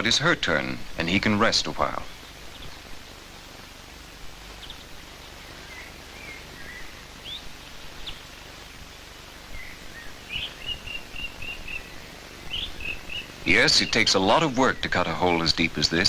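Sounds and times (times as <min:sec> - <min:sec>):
small birds chirping: 0:00.0 - 0:16.0
steady hiss: 0:00.0 - 0:16.0.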